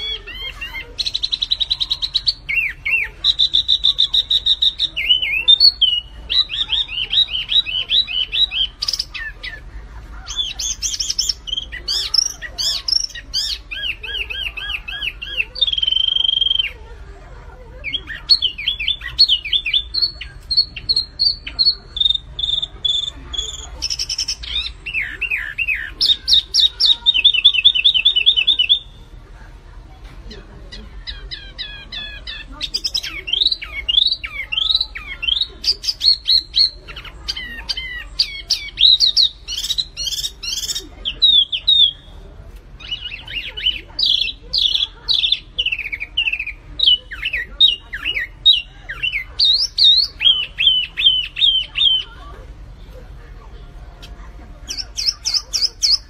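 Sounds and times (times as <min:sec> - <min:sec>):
songbird singing trills: 0:00.0 - 0:17.0, 0:17.7 - 0:29.2, 0:30.4 - 0:52.3, 0:54.0 - 0:56.0.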